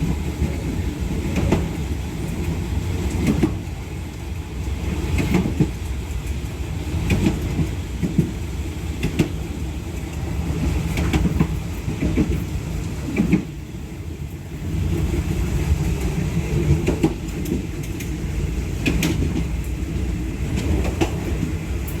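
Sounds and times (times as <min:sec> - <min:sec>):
train clacks and knocks: 0:00.0 - 0:22.0
train wheels rumbling on rails: 0:00.0 - 0:22.0.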